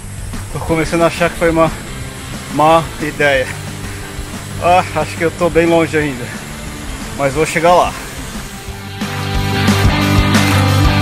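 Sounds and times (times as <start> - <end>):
drum and bass music: 0.0 - 11.0.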